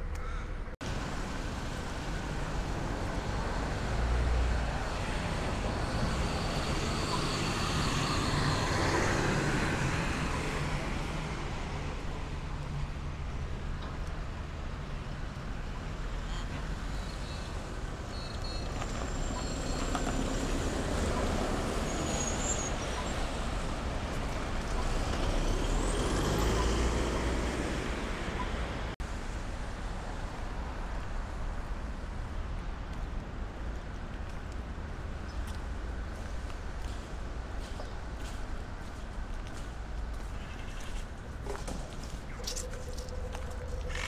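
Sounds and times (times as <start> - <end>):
street traffic hum: 0.0 - 44.0
vehicles passing: 0.0 - 44.0.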